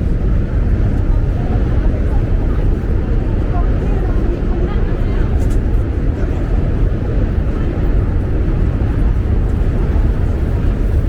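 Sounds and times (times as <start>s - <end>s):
city street rumble: 0.0s - 11.0s.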